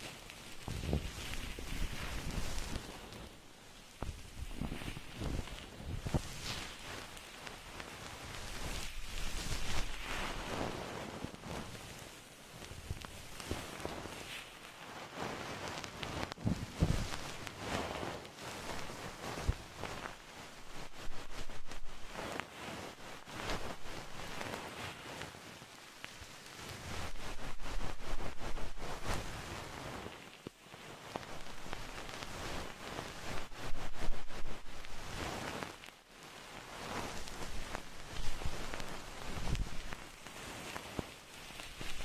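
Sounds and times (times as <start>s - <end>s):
close crackling and rustling: 0.0s - 42.0s.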